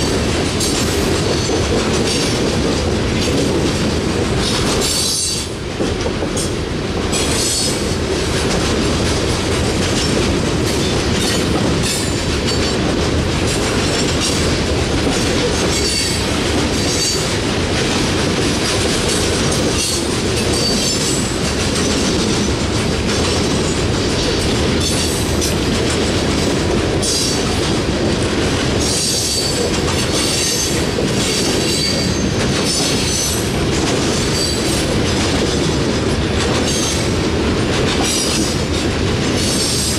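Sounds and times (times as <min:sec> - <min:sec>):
rail cars rumbling and clattering: 0:00.0 - 0:39.9.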